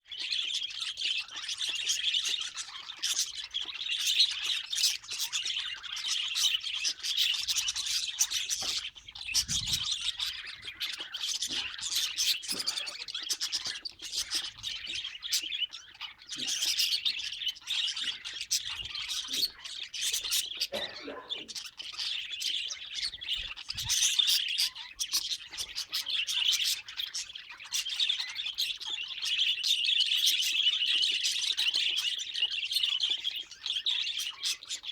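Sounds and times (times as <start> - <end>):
budgerigars chirping: 0.1 - 34.9.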